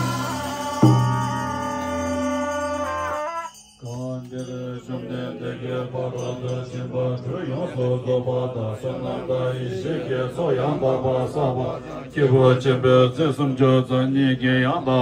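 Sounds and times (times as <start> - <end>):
monks chanting low: 0.0 - 15.0.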